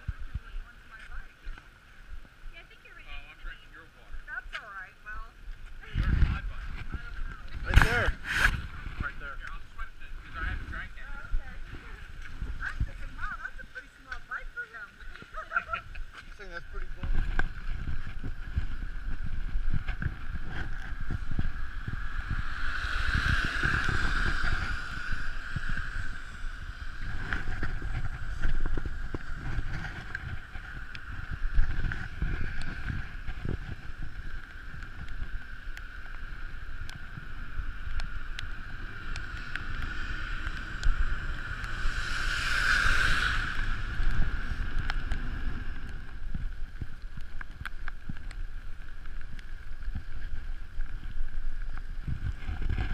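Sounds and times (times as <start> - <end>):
road rumble: 0.0 - 52.9
wind buffeting microphone: 0.0 - 52.9.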